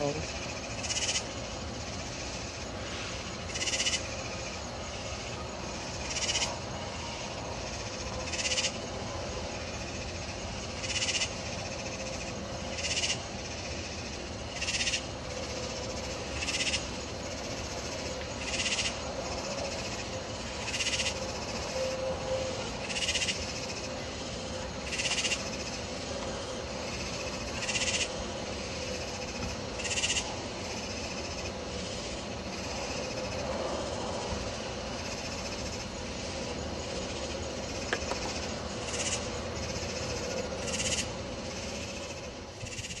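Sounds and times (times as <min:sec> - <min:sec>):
high buzzy insect call: 0:00.0 - 0:43.0
insects calling: 0:00.0 - 0:43.0.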